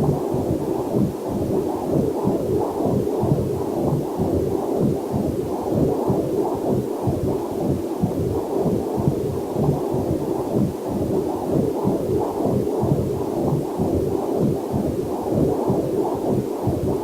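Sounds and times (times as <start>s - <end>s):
fetal doppler heartbeat whooshing: 0.0s - 17.0s.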